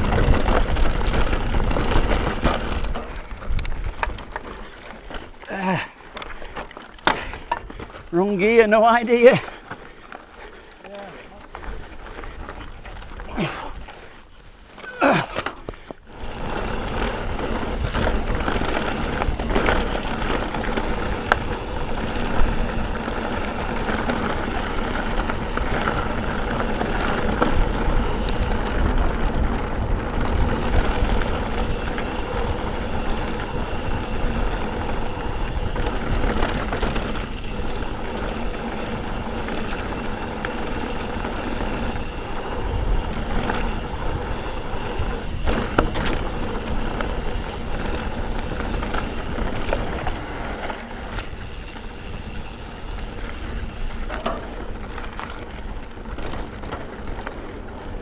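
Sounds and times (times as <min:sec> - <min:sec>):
bike clicks and rattles: 0:00.0 - 0:58.0
bike tyre rumble on trail: 0:00.0 - 0:58.0.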